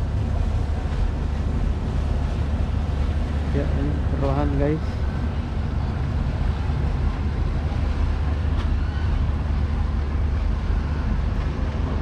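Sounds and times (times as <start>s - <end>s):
ship diesel engines droning: 0.0s - 12.0s.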